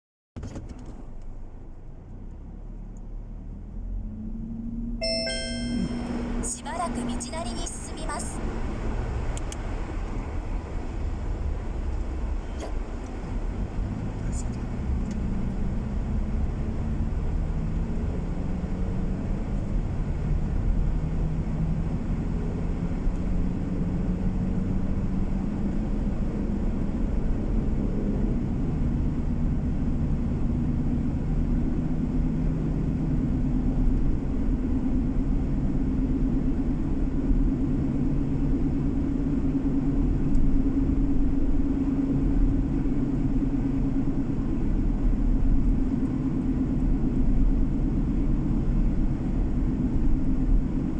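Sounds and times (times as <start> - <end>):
car engine hum: 0.4 - 50.9
tyre road noise: 5.6 - 50.9.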